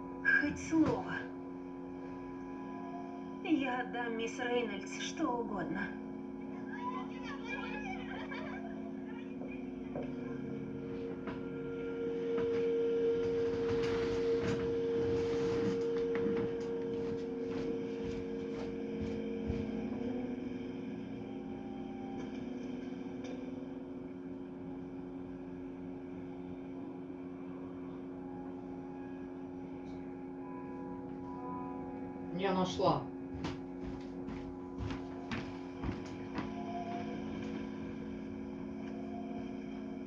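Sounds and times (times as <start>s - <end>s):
low sustained tones: 0.0s - 33.3s, 34.5s - 40.0s
held ringing note: 0.0s - 40.0s.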